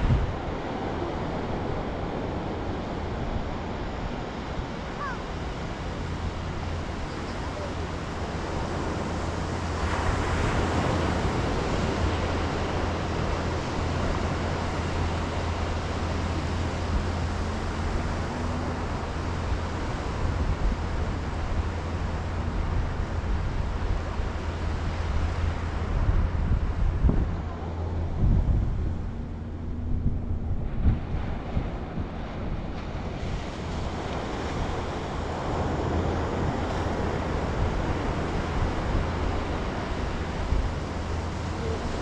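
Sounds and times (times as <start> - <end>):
surf washing on beach: 0.0 - 42.0
wind blowing across microphone: 0.0 - 42.0.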